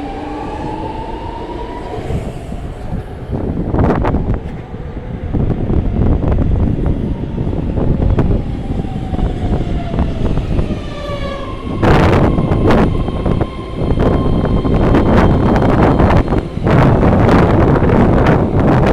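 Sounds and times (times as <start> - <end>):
train propulsion whine: 0.0 - 18.9
train wheels rumbling on rail: 0.0 - 18.9.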